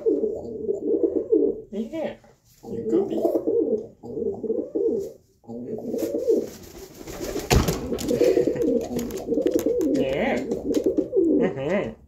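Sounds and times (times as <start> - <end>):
dove cooing: 0.0 - 1.7, 2.6 - 6.5, 7.8 - 12.0.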